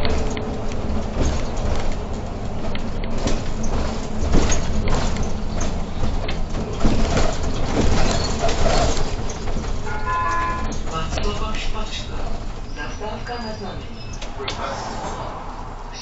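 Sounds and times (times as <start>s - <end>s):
rattles and knocks from bus body: 0.0s - 15.2s
bus engine and road noise: 0.0s - 16.0s.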